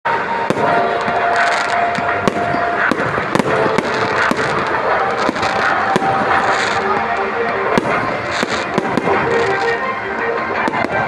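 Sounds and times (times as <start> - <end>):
fireworks crackling: 0.1 - 11.0.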